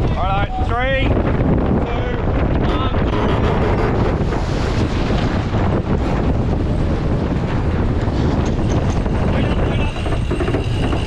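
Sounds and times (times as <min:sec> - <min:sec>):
water rushing past hulls: 0:00.0 - 0:11.0
wind buffeting microphone: 0:00.0 - 0:11.0.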